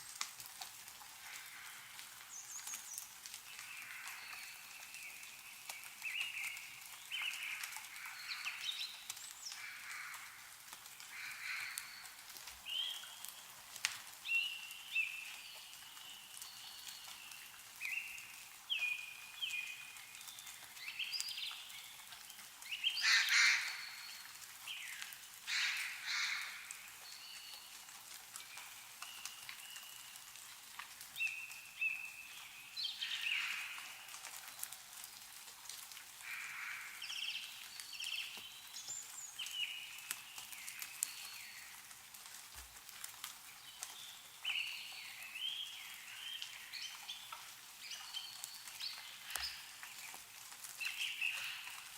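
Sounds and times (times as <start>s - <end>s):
meltwater drips: 0.0s - 51.9s.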